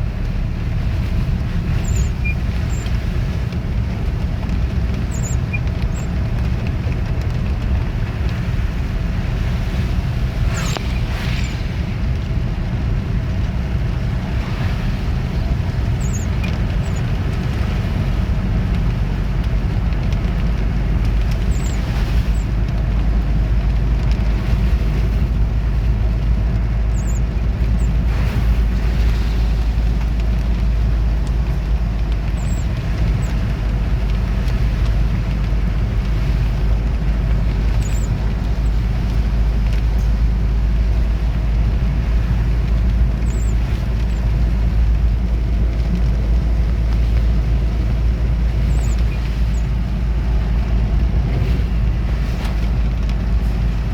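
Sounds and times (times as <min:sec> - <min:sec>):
car engine and road rumble: 0:00.0 - 0:53.9
wind on microphone: 0:00.0 - 0:53.9.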